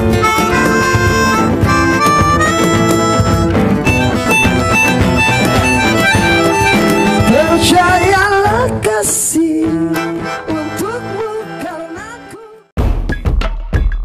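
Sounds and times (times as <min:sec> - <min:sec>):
melodica melody: 0:00.0 - 0:08.7, 0:09.9 - 0:12.6
strummed acoustic guitar: 0:00.0 - 0:12.4
cajon drumming: 0:00.0 - 0:14.0.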